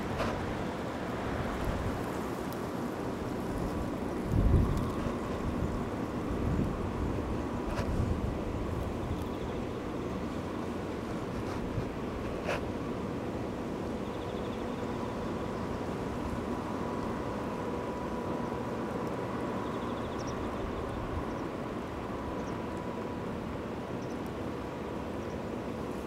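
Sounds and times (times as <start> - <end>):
faint hum: 0.0 - 26.0
low outdoor rumble: 0.0 - 26.0.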